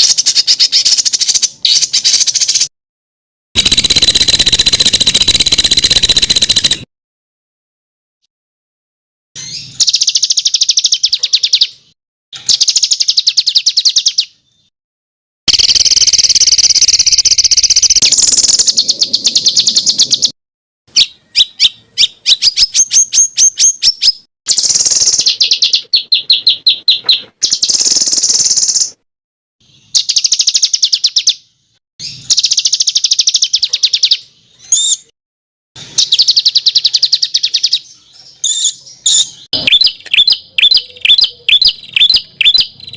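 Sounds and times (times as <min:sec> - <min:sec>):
songbird singing trilled phrases: 0:00.0 - 0:02.7, 0:03.6 - 0:06.9, 0:09.4 - 0:14.7, 0:15.5 - 0:29.0, 0:29.6 - 0:31.4, 0:32.0 - 0:35.1, 0:35.9 - 0:42.9.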